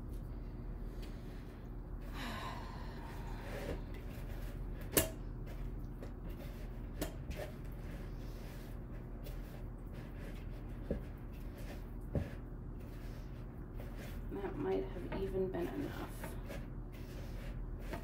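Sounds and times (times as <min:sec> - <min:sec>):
steady low hum: 0:00.0 - 0:18.0
wooden spoon stirring dough: 0:03.0 - 0:18.0.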